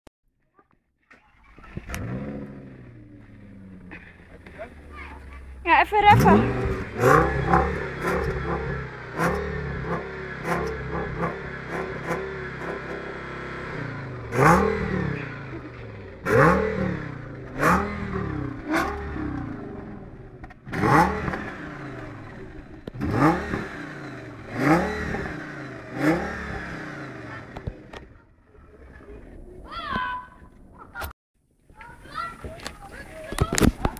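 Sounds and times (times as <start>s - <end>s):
car engine revving: 1.2s - 29.4s.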